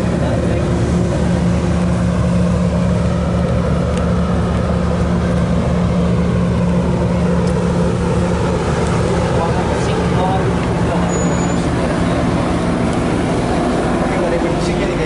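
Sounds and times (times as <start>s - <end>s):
ship engines humming: 0.0s - 15.0s.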